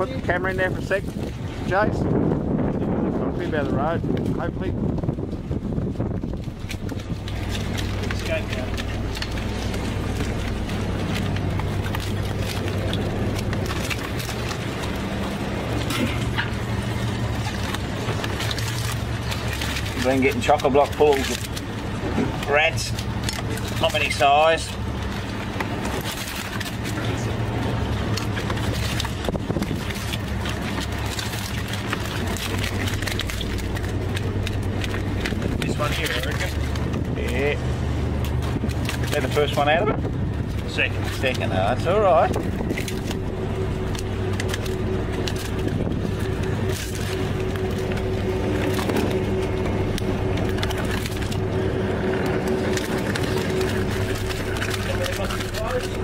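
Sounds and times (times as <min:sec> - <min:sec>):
boat engine idling: 0:00.0 - 0:56.0
lobsters clicking and scratching: 0:03.4 - 0:56.0.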